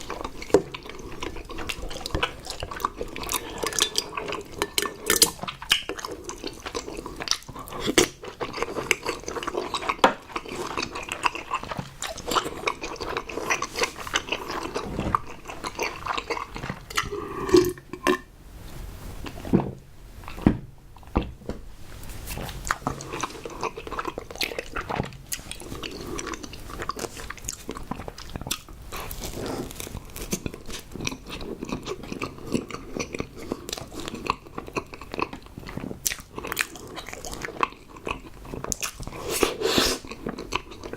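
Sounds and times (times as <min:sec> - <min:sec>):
person chewing food: 0:00.0 - 0:18.3, 0:19.2 - 0:40.9.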